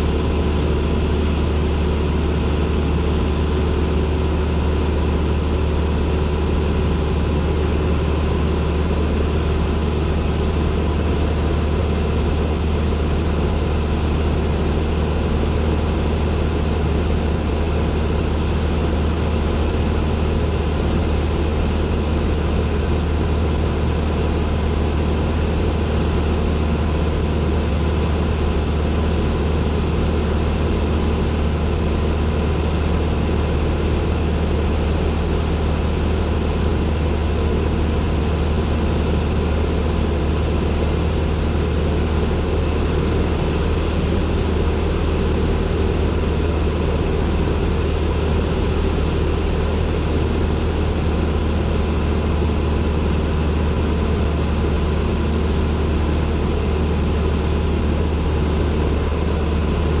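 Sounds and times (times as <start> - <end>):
airplane engine and propeller drone: 0.0 - 60.0.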